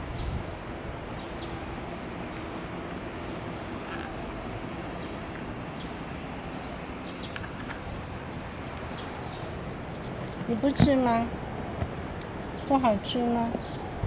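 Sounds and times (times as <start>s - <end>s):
distant city traffic: 0.0s - 14.0s.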